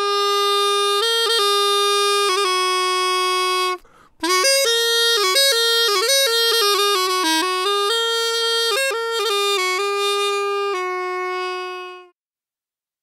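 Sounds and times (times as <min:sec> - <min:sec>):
reed pipe melody: 0:00.0 - 0:12.2.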